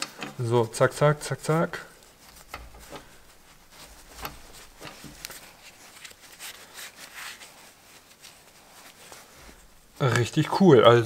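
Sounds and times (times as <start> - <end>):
cloth rag rubbing metal: 0.4 - 11.0.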